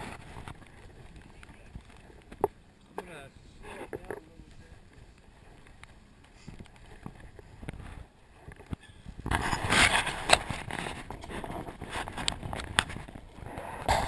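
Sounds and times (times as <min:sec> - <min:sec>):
rustling on microphone: 0:00.0 - 0:14.0.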